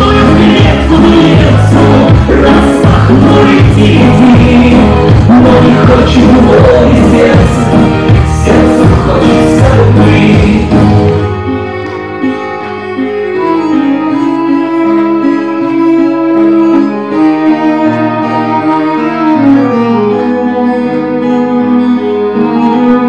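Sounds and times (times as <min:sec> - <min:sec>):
instrumental pop music over speakers: 0:00.0 - 0:23.0.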